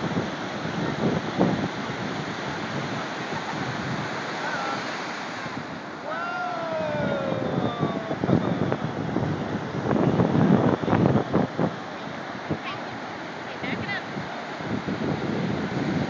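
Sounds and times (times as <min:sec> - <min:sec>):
ocean waves breaking: 0:00.0 - 0:16.0
wind buffeting microphone: 0:00.0 - 0:16.0.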